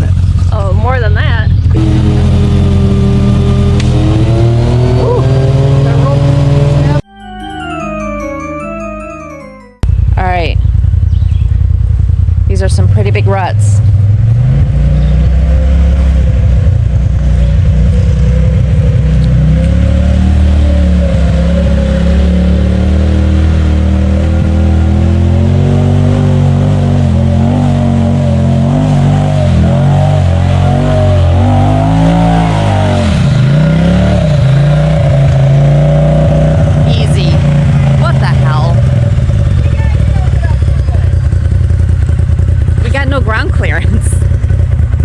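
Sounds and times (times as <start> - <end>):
utility vehicle engine revving: 0.0 - 7.0, 9.8 - 45.0.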